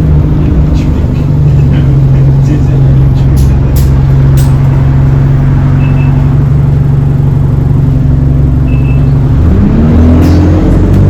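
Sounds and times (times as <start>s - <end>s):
bus engine hum accelerating: 0.0s - 11.0s.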